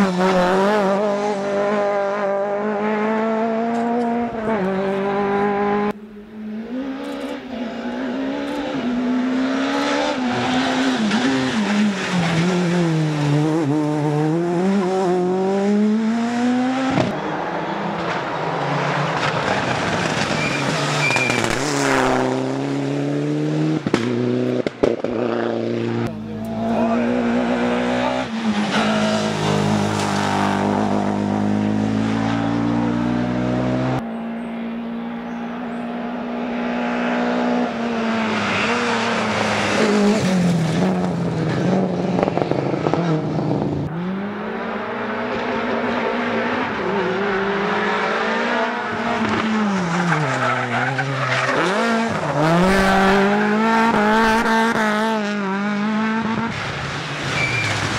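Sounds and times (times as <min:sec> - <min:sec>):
rally car engine revving: 0:00.0 - 0:57.9.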